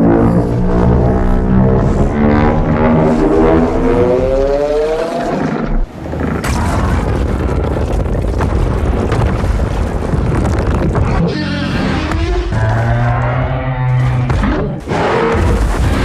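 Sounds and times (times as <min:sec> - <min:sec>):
dense rumbling with crackles: 0:00.0 - 0:16.0.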